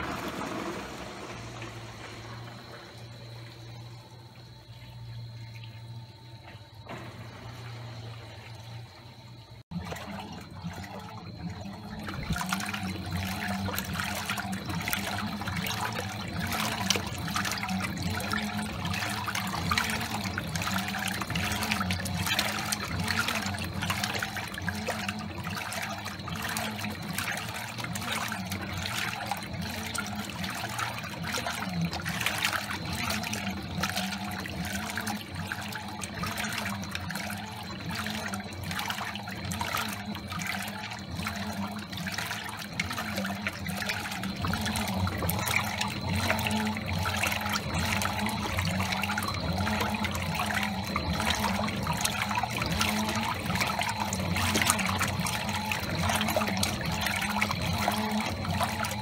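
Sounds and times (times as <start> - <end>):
machine hum wavering pitch: 0.0 - 59.0
water sloshing in washing machine: 0.0 - 59.0.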